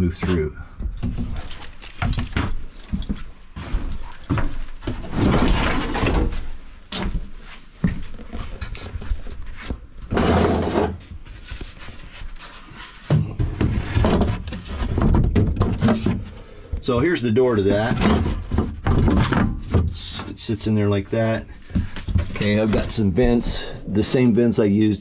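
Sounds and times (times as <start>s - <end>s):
knocks and scrapes of wood: 0.2s - 16.5s, 17.7s - 20.5s, 21.6s - 23.7s.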